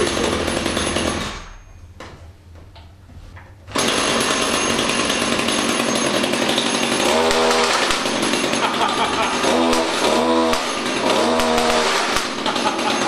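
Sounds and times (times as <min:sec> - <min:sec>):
chainsaw running loudly: 0:00.0 - 0:01.5, 0:03.7 - 0:13.0.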